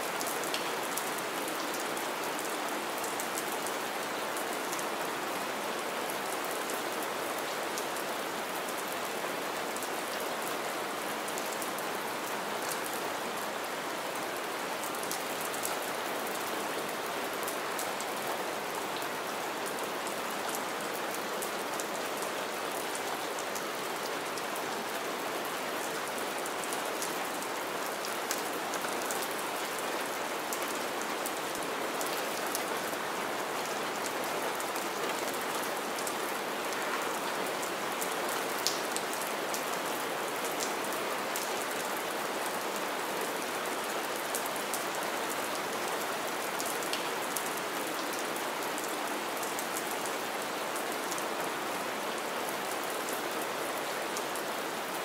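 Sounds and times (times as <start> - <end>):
rain hissing on wet ground: 0.0 - 55.0.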